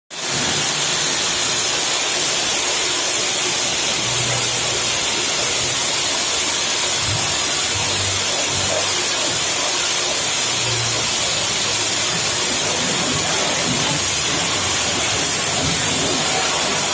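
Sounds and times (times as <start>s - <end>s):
pressure washer jet hissing: 0.2s - 16.9s.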